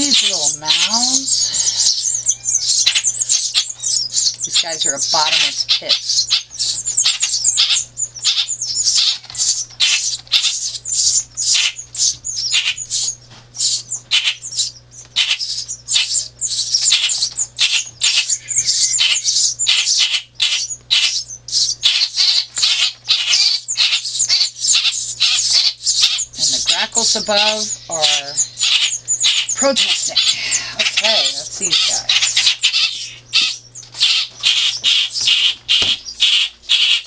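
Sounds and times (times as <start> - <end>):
nestling birds chirping: 0.0 - 37.0.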